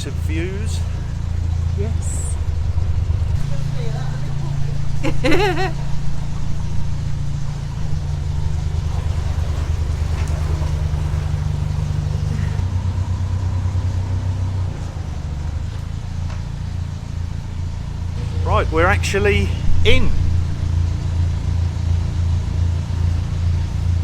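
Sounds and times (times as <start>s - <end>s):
diesel boat engine idling: 0.0s - 24.0s.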